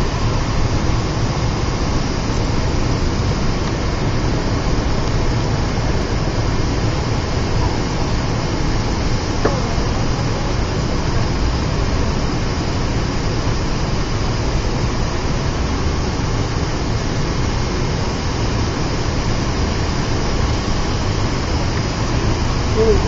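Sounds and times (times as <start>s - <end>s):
airliner engines roaring: 0.0s - 23.0s.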